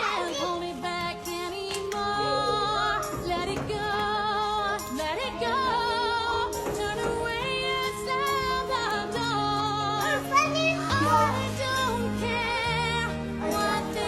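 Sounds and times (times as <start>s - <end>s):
woman singing a song: 0.0s - 14.0s.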